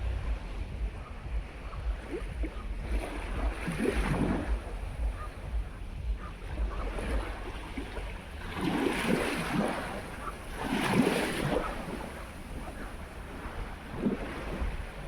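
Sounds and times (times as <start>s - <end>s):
waves washing in: 0.0s - 15.0s
wind rumbling on microphone: 0.0s - 15.0s.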